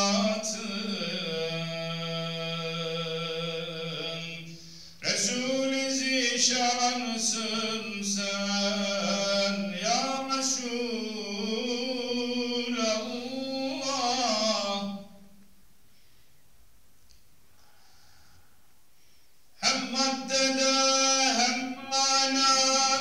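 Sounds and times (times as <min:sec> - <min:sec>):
man chanting: 0:00.0 - 0:15.2, 0:19.6 - 0:23.0.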